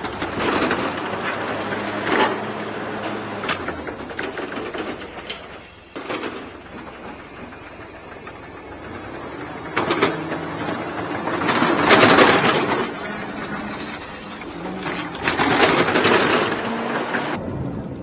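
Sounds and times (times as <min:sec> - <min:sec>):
lift mechanism whirring: 0:00.0 - 0:17.4.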